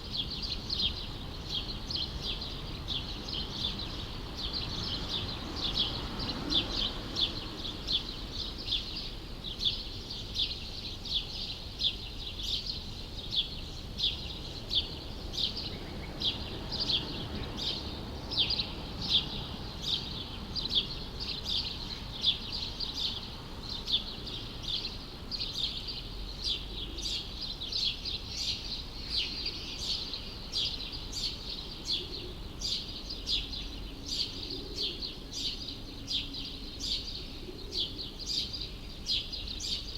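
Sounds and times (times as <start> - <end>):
low city rumble: 0.0 - 39.9.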